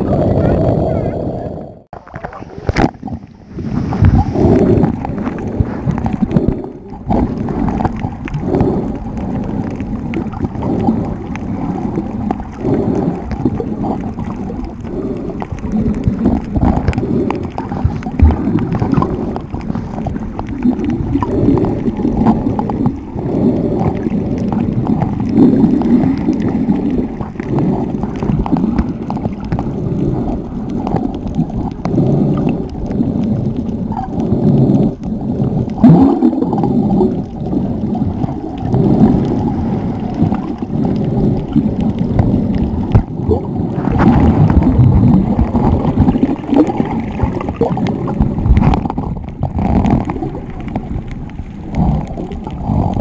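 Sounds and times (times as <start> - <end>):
muffled churning water underwater: 0.0 - 53.0.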